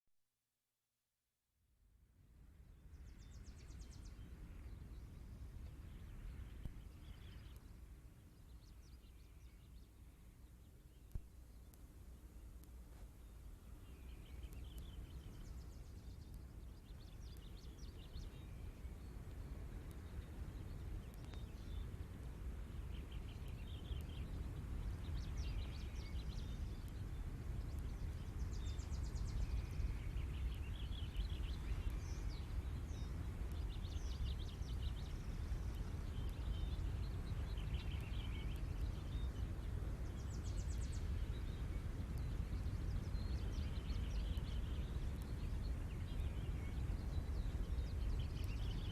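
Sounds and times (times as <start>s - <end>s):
small birds chirping: 2.8s - 48.9s.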